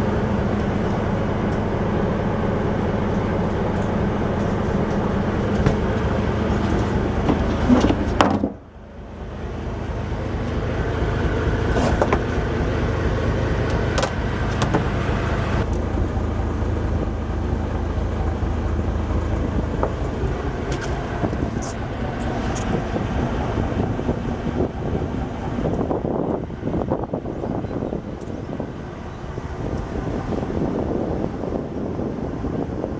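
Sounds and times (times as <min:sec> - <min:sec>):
boat engine low rumble: 0:00.0 - 0:32.9.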